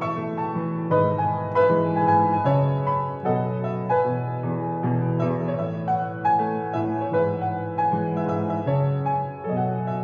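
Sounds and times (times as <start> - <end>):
grand piano playing: 0.0 - 10.0.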